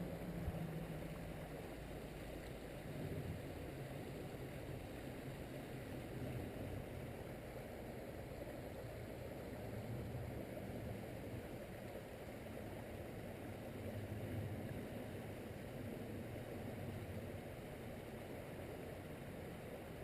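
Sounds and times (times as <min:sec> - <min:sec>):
stream water running: 0:00.0 - 0:20.0.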